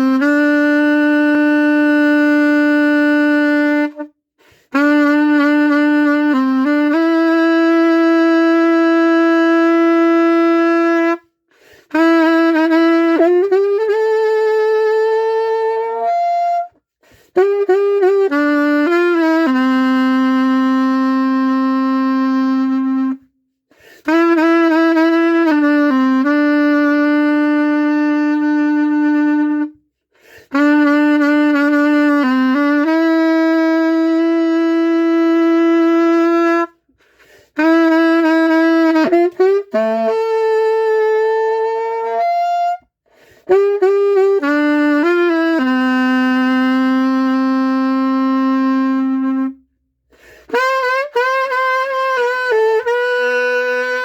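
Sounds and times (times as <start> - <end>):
saxophone playing slow melody: 0.0 - 54.0.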